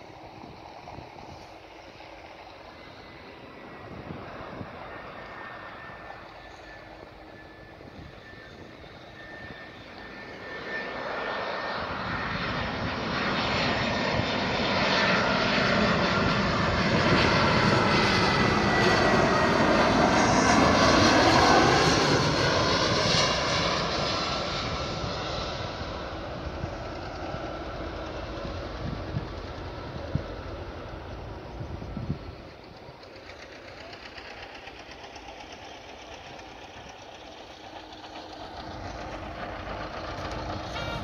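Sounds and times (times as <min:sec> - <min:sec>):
jet airliner engine passing: 0:00.0 - 0:41.0.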